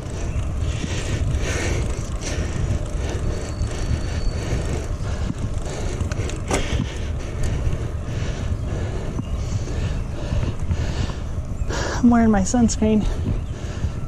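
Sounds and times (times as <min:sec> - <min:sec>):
bicycle tyre noise on trail: 0:00.0 - 0:14.0
wind rushing over microphone: 0:00.0 - 0:14.0.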